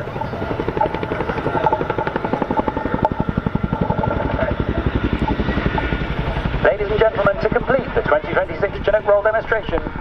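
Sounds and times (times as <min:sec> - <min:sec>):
helicopter rotors thudding: 0:00.0 - 0:10.0.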